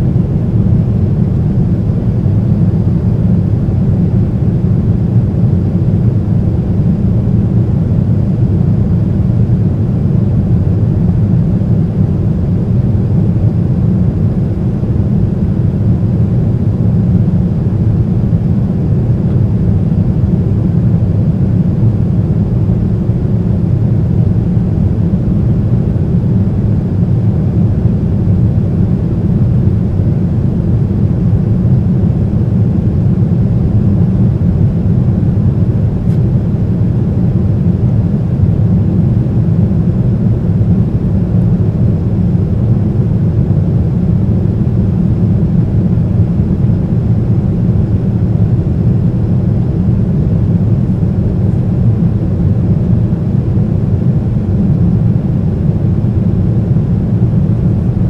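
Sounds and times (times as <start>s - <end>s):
jet engines rumbling in cabin: 0.0s - 58.0s.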